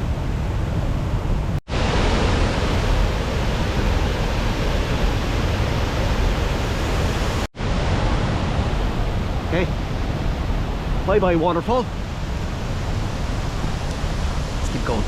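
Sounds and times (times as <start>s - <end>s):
waterfall rushing: 1.7s - 15.0s.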